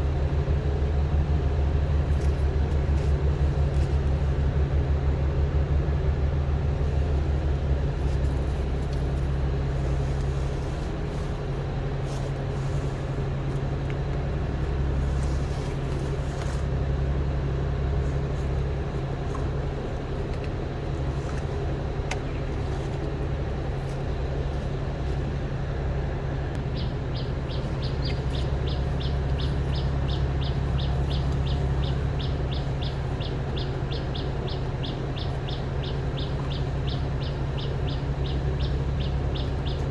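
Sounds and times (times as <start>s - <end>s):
low motor hum: 0.0s - 39.9s.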